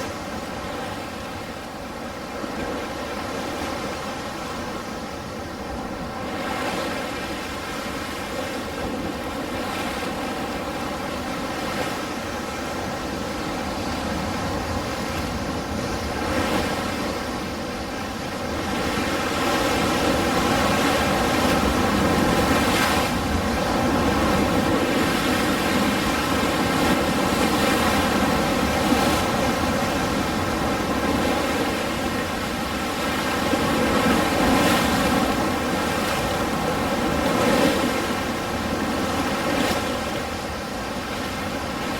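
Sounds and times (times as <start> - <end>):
ocean surf washing ashore: 0.0 - 41.9.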